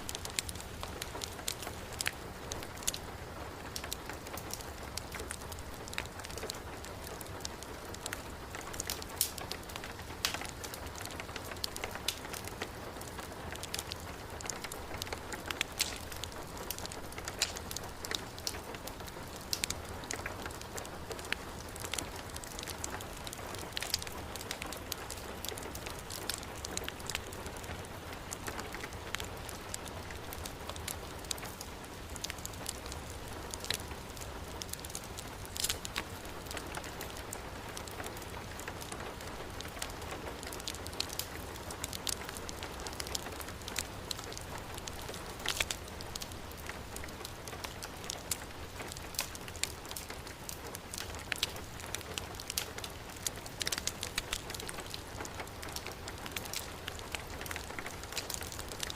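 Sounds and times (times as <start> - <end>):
heavy rain: 0.0 - 58.9
wood fire crackling: 0.0 - 58.9.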